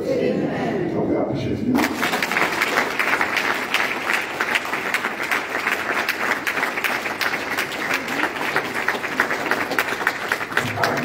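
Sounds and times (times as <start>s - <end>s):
crowd applauding: 1.8s - 11.0s.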